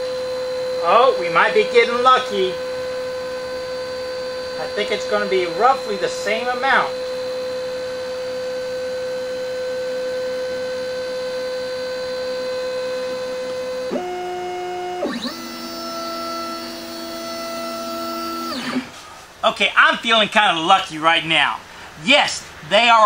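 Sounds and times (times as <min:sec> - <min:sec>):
stepper motors whining: 0:00.0 - 0:19.3.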